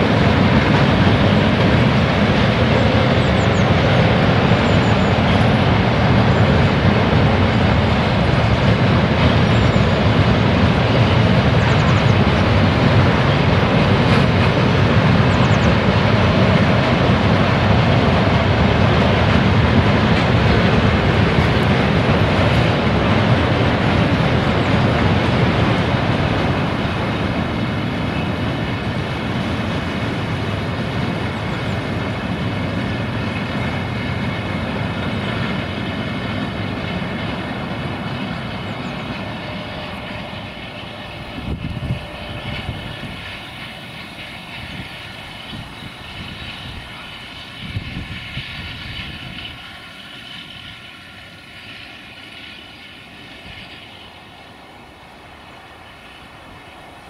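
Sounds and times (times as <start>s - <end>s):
freight wagons rumbling: 0.0s - 57.0s.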